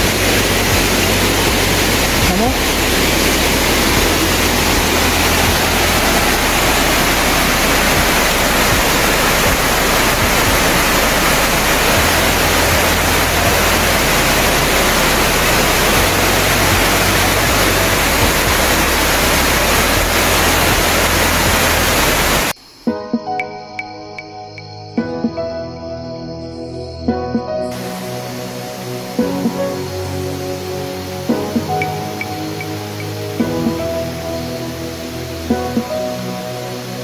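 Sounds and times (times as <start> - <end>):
water rushing over rocks: 0.0 - 22.6, 27.7 - 37.0.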